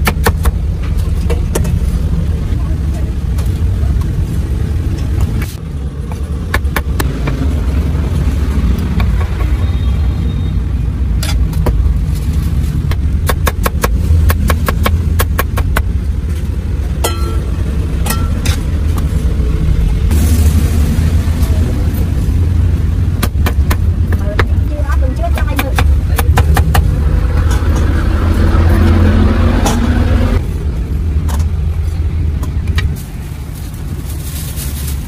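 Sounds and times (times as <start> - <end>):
steady low rumble: 0.0 - 9.7, 10.7 - 35.0.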